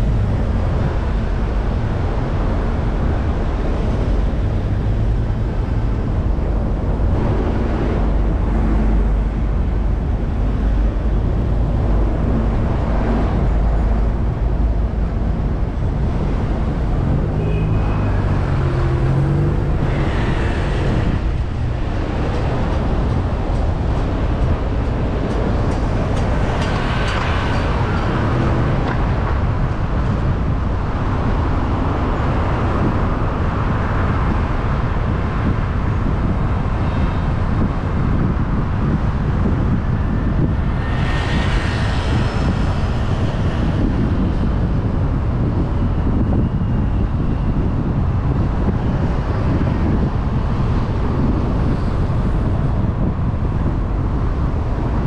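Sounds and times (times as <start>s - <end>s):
car engine and tyre rumble: 0.0s - 55.0s
traffic passing by: 0.0s - 55.0s.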